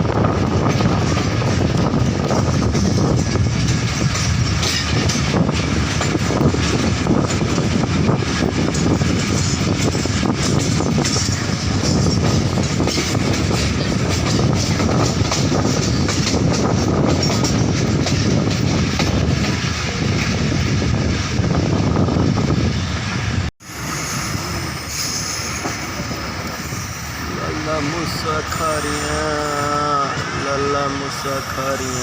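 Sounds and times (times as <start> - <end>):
train wheels rumbling on track: 0.0 - 32.0.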